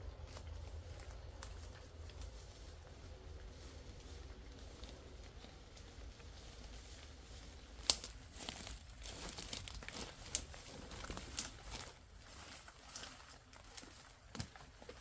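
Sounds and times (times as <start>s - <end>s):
material crinkling and crackling: 0.1s - 15.0s.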